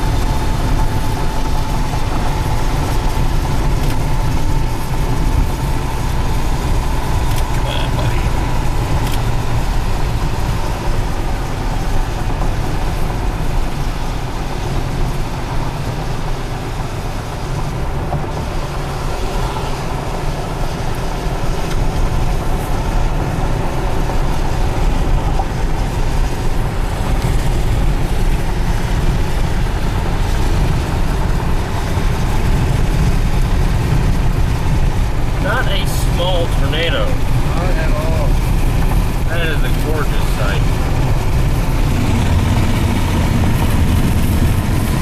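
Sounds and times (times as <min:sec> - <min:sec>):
car road and wind noise: 0:00.0 - 0:45.0.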